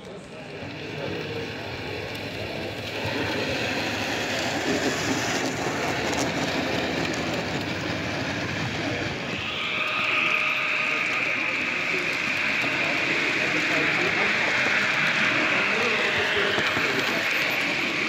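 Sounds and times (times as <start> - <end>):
model train rumbling over track: 0.0 - 18.0.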